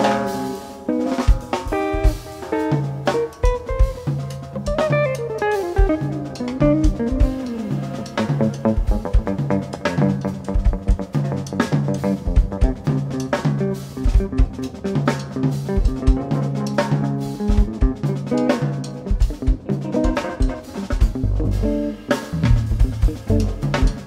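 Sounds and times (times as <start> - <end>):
drum kit hits: 0.0 - 24.0
electric guitar: 0.0 - 24.0
jazz band playing: 0.0 - 24.0.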